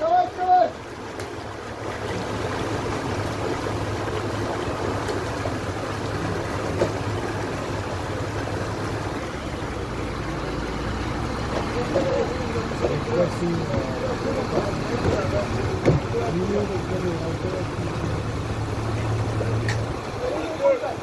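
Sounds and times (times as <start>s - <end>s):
water pouring and gushing: 0.0s - 21.0s
truck engine running: 0.8s - 21.0s.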